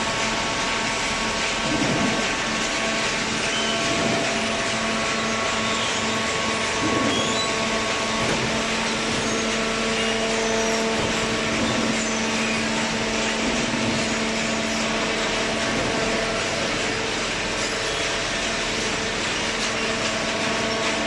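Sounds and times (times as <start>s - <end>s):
baler machine droning: 0.0s - 21.0s.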